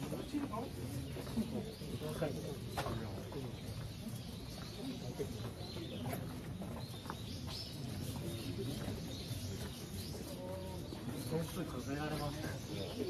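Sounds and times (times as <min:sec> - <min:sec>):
birds chirping: 0:00.0 - 0:13.0
low background murmur: 0:00.0 - 0:13.0.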